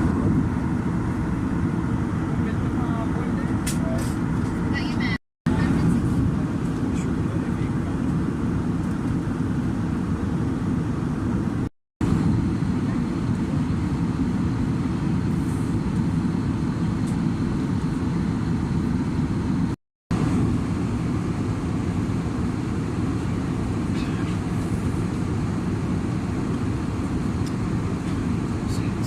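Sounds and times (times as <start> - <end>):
aircraft cabin engine rumble: 0.0 - 29.0.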